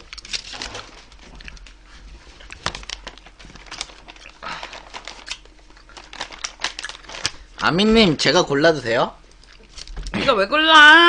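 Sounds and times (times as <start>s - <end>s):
crinkling rustles: 0.0s - 8.5s, 9.2s - 10.2s.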